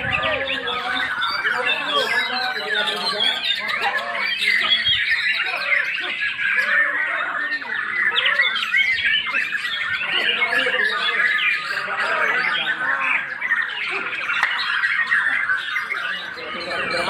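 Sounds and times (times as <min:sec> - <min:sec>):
songbirds singing and chirping: 0:00.0 - 0:17.0.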